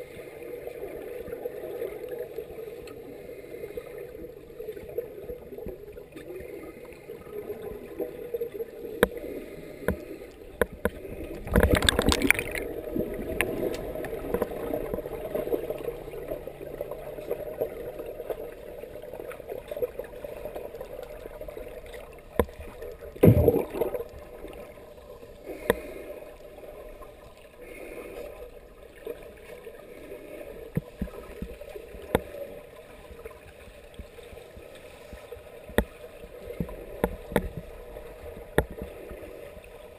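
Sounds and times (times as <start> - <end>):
regulator bubbles gurgling: 0.0 - 39.9.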